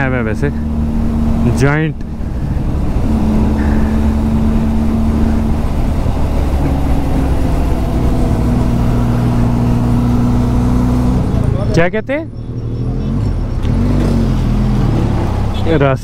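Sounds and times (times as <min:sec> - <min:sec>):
motorcycle engine cruising: 0:00.0 - 0:16.0
road noise: 0:00.0 - 0:16.0.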